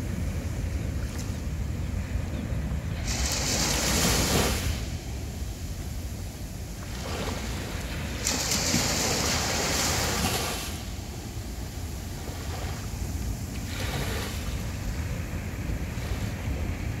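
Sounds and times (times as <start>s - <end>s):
low rumble of surf: 0.0s - 17.0s
sea waves breaking on beach: 0.0s - 17.0s.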